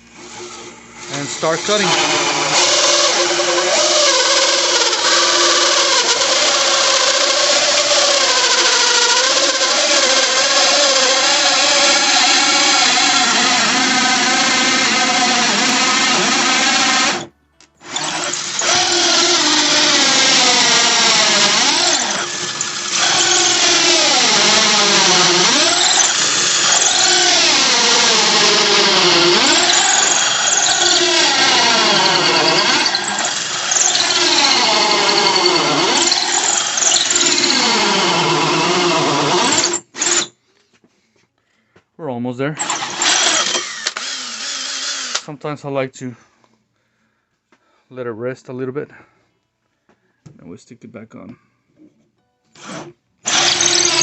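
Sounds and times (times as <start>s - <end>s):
drill with hole saw cutting wood: 0.0s - 40.4s, 42.6s - 45.3s, 52.6s - 54.0s.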